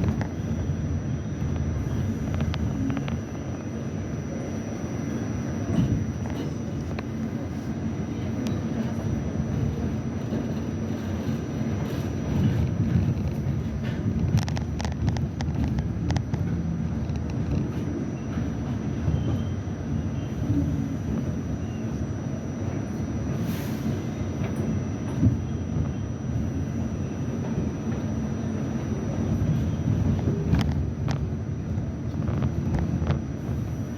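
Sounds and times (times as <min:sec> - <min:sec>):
subway train rumbling: 0:00.0 - 0:33.9.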